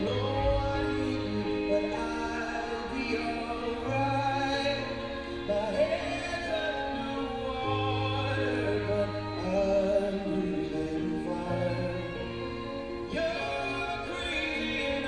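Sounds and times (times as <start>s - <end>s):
person singing: 0.0s - 15.0s
sustained chords: 0.0s - 15.0s.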